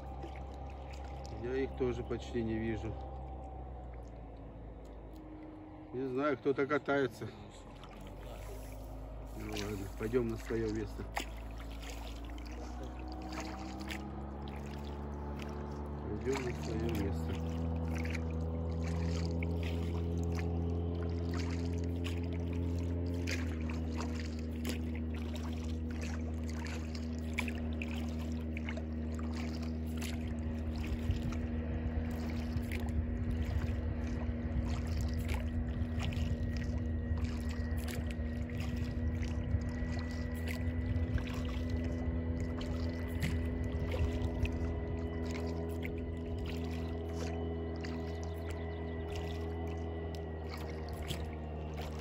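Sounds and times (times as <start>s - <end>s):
outboard motor running: 0.0s - 52.0s.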